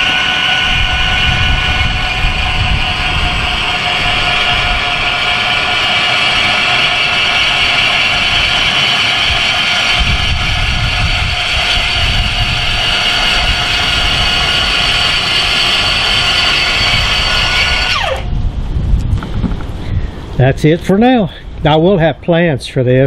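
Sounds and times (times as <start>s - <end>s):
actuator motor whine: 0.0s - 19.7s
low rumble: 0.0s - 21.7s.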